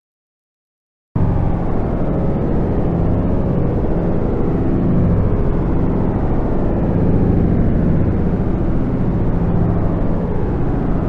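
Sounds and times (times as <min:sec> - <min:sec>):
low droning rumble: 0:01.2 - 0:11.0.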